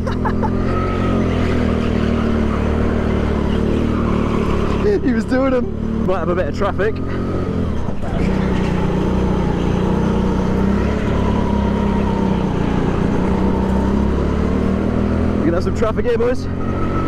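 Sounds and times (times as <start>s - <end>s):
go-kart motor running: 0.0s - 17.0s.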